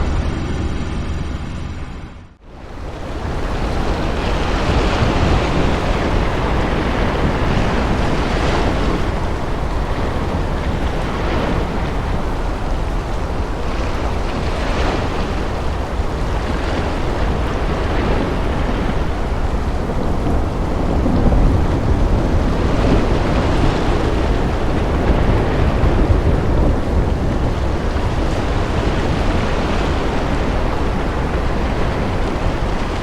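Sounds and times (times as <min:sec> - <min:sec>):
wind buffeting microphone: 0:00.0 - 0:33.0
surf breaking on shore: 0:02.4 - 0:33.0.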